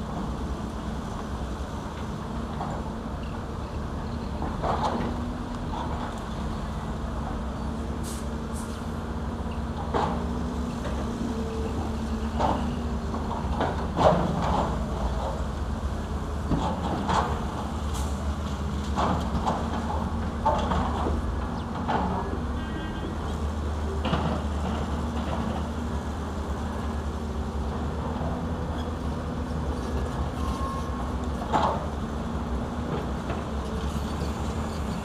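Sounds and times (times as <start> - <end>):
heavy diesel engines rumbling: 0.0 - 35.0.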